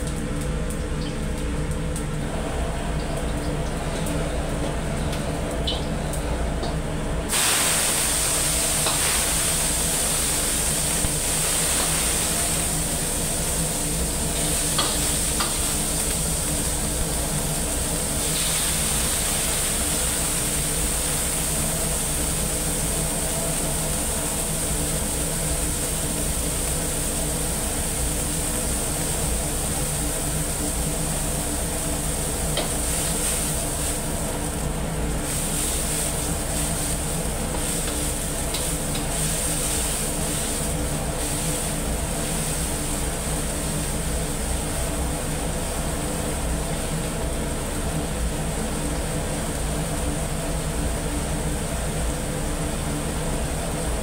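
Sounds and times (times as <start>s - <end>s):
low kitchen hum: 0.0s - 54.0s
food sizzling in a wok: 7.3s - 54.0s.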